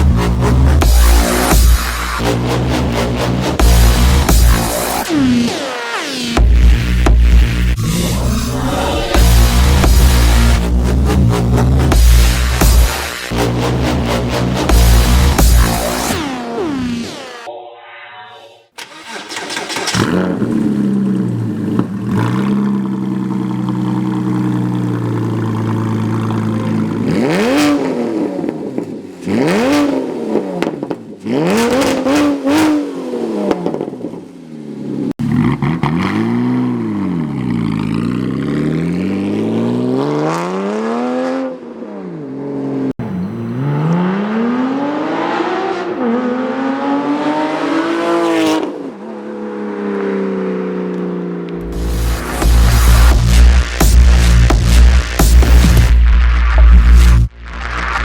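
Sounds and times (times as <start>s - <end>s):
engine revving: 0.0s - 17.5s, 18.8s - 34.0s, 35.1s - 50.9s, 51.5s - 58.0s.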